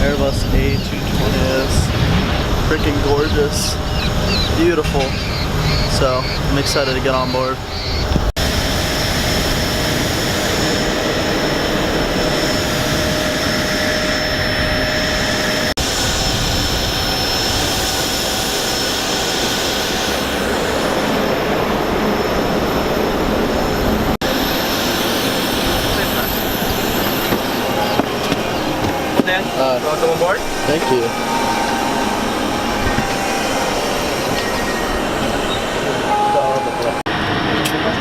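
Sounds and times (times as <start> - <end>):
high whining tones: 0.0 - 37.3
jet turbine rush: 0.0 - 38.0.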